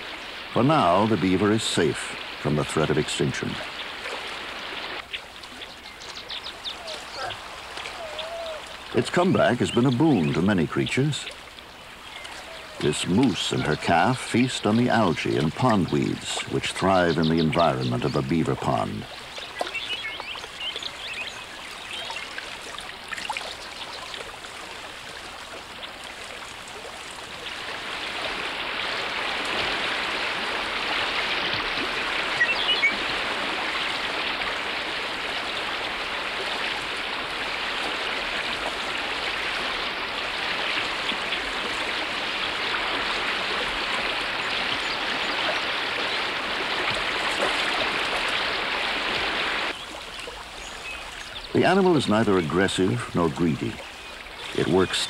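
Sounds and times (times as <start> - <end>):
water pouring over a dam: 0.0 - 6.1, 6.8 - 55.0.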